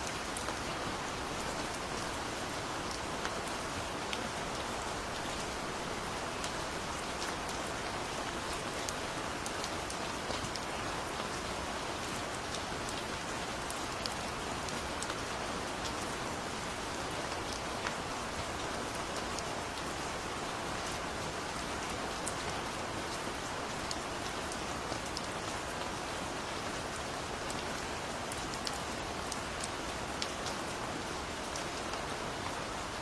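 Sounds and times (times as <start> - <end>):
raindrops ticking on a surface: 0.0 - 33.0
steady rain hiss: 0.0 - 33.0.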